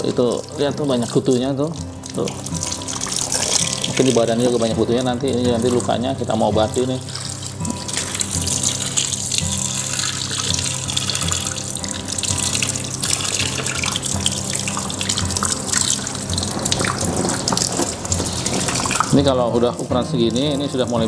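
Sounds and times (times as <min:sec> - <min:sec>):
water running from a hose: 0:00.0 - 0:21.0
water splashing into a tub: 0:00.0 - 0:21.0.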